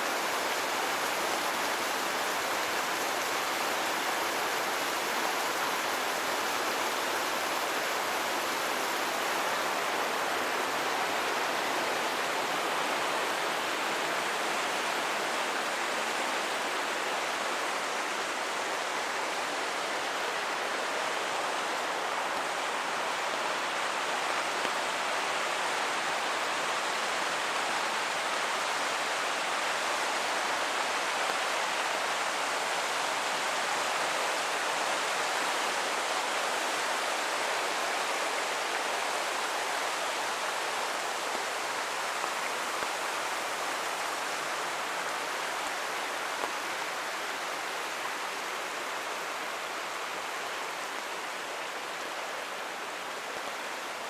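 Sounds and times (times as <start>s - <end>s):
creek rushing: 0.0s - 54.0s.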